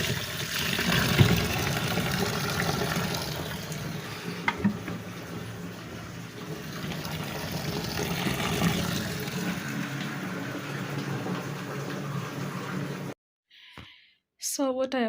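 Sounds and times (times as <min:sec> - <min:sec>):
water filling washing machine: 0:00.0 - 0:13.2.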